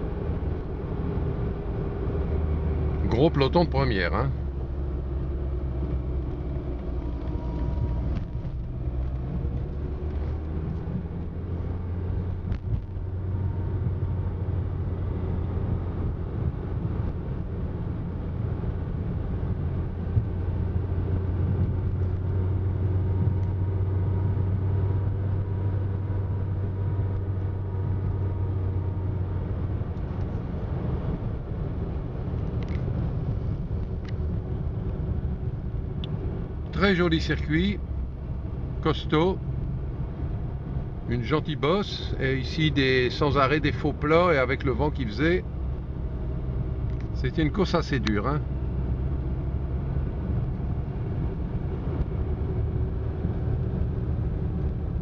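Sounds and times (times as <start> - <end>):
car engine drone: 0.0 - 55.0
tyre road noise: 0.0 - 55.0.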